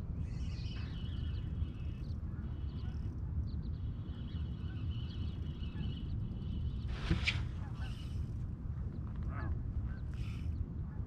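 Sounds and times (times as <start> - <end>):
distant birds calling: 0.2 - 10.7.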